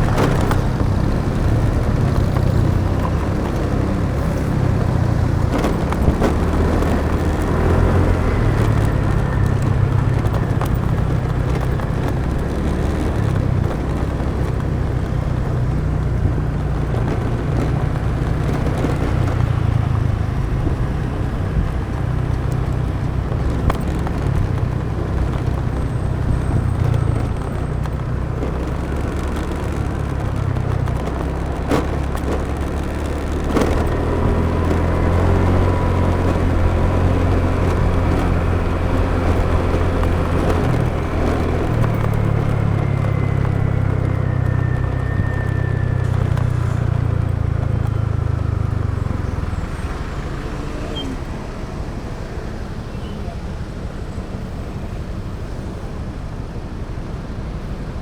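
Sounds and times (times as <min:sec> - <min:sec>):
motorbike engine running: 0:00.0 - 0:53.2
road noise: 0:00.0 - 0:58.0.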